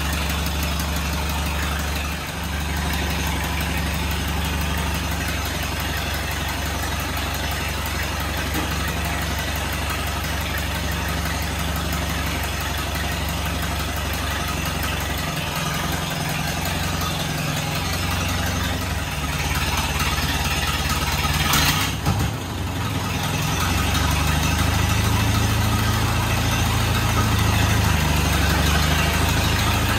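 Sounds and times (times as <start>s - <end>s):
tractor engine idling: 0.0s - 29.9s.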